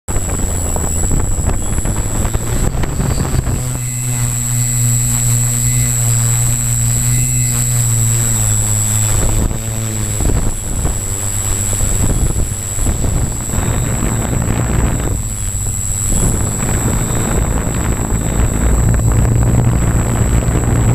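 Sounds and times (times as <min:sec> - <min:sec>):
drone motors and propellers humming: 0:00.0 - 0:20.9.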